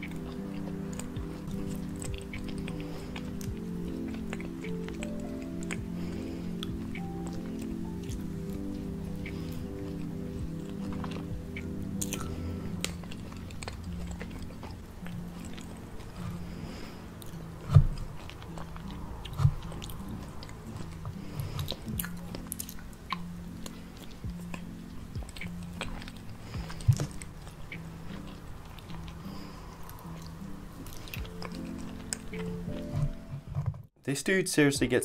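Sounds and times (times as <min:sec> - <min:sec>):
chewing soft cake: 0:00.0 - 0:33.2
soft background music: 0:00.0 - 0:35.0.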